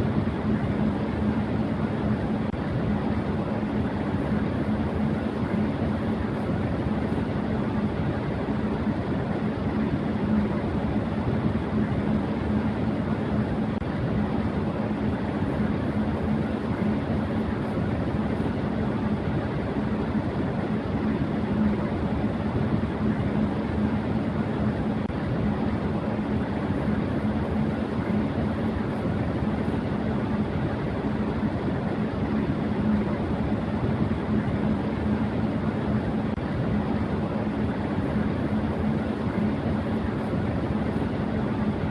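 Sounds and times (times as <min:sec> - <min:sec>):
electric fan running: 0:00.0 - 0:41.9.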